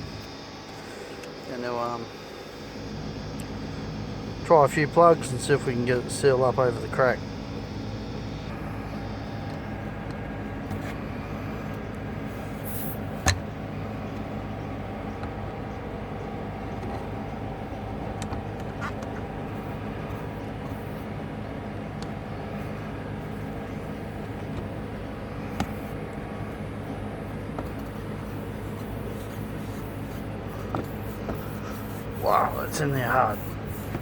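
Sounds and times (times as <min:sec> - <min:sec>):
steady motor hum: 0:00.0 - 0:34.0.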